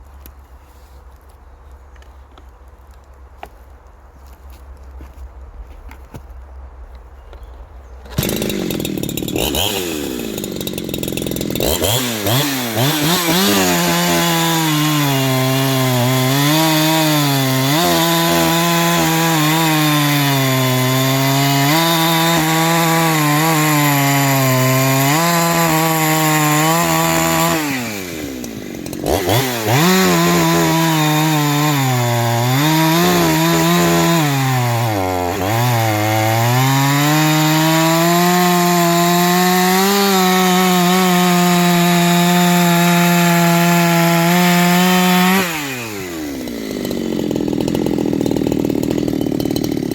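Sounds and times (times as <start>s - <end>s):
chainsaw sawing wood: 8.0s - 49.9s.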